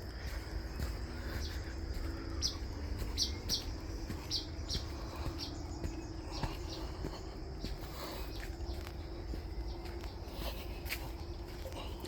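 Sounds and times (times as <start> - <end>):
bird chirping: 0.0 - 12.0
faint insect whine: 0.0 - 12.0.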